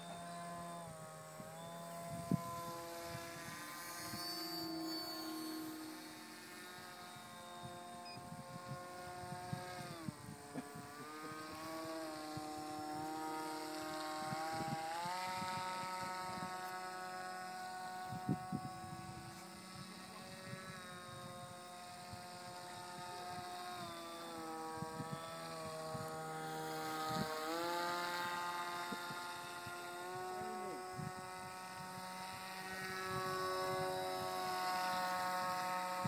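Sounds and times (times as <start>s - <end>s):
model aircraft motor whining: 0.0s - 36.0s.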